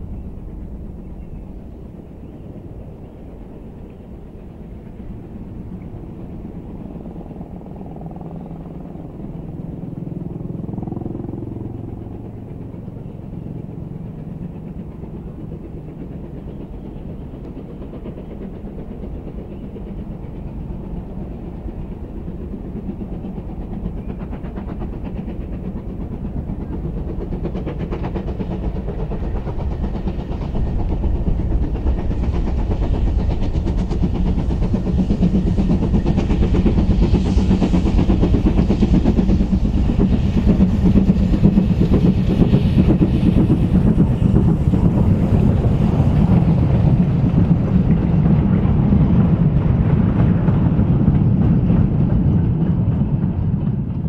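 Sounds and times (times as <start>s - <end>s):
steam train rumbling on rails: 0.0s - 54.0s.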